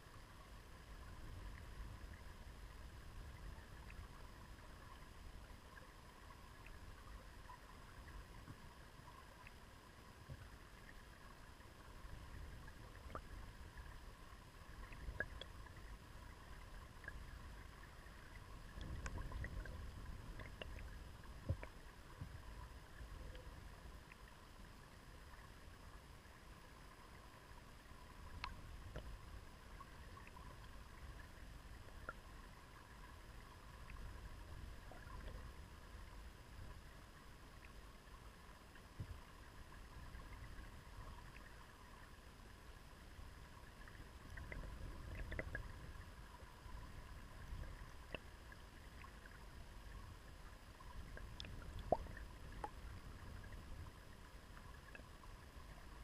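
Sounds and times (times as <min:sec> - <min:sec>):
underwater river current rumble: 0:00.0 - 0:56.0
small underwater clicks: 0:01.0 - 0:42.2, 0:42.9 - 0:56.0.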